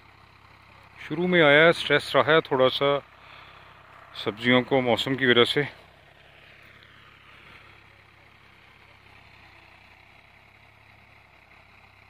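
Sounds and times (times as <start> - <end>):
distant tractor engine droning: 0.0 - 12.0.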